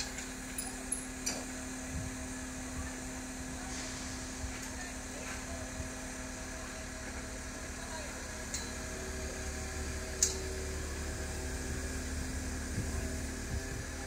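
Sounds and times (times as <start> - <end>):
crane engine humming: 0.0 - 14.0.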